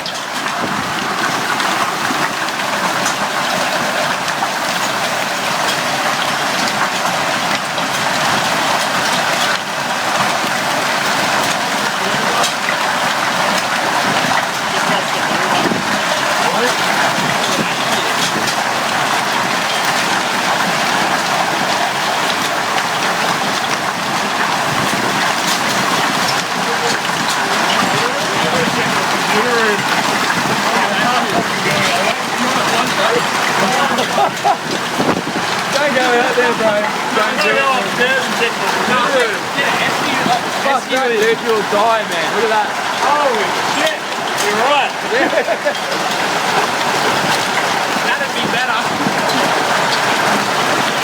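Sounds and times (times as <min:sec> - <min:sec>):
hail and rain pelting down: 0:00.0 - 0:51.0.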